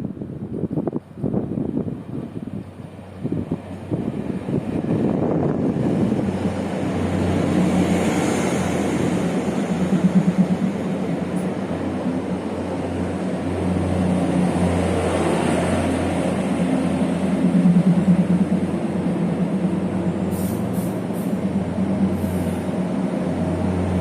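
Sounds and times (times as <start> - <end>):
train running by: 0.0 - 24.0.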